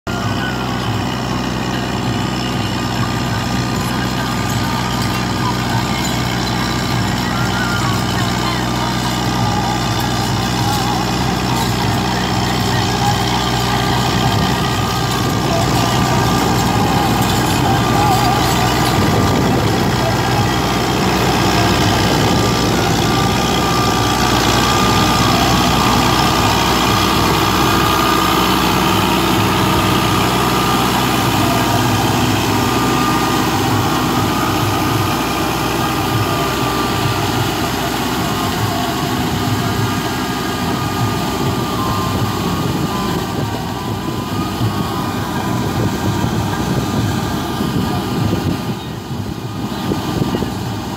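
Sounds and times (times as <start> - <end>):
tractor diesel engine running: 0.0 - 50.9
drive whine: 0.1 - 50.9
rotavator churning mud: 0.1 - 50.9.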